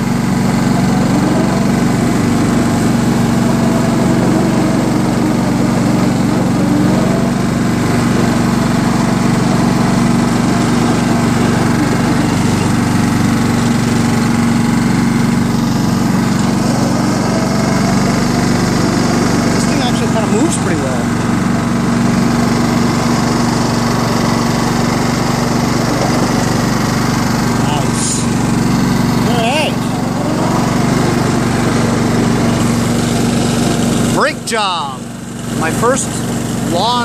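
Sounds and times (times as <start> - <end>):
lawn tractor engine running: 0.0 - 37.0.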